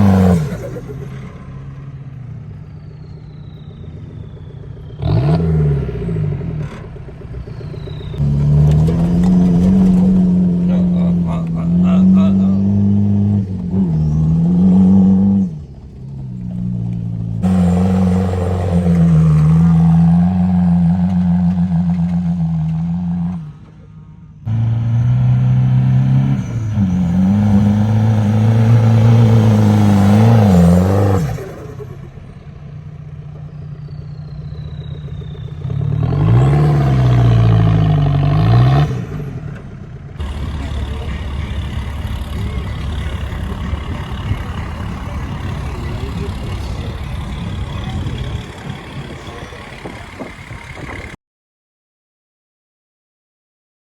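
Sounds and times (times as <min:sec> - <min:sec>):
diesel engine revving: 0:00.0 - 0:51.2.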